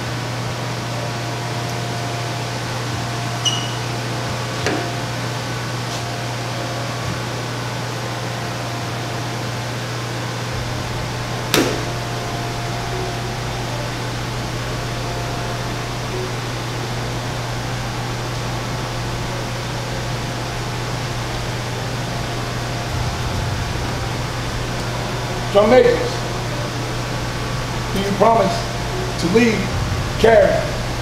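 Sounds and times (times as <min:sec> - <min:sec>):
low hum with hiss: 0:00.0 - 0:31.0.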